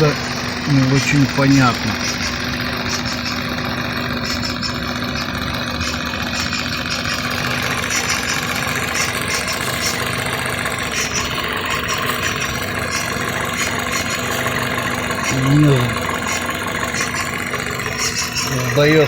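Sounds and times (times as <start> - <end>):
car engine idling: 0.0 - 19.0
engine misfire puffs: 0.0 - 19.0.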